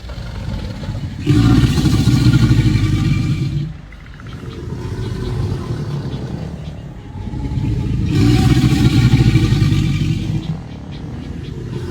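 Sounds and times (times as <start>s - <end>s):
alligator bellowing: 0.0s - 11.9s.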